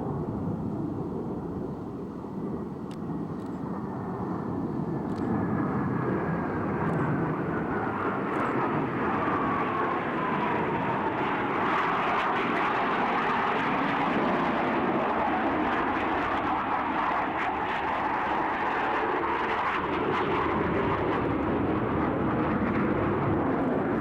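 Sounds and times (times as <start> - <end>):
jet roar passing: 0.0 - 24.0.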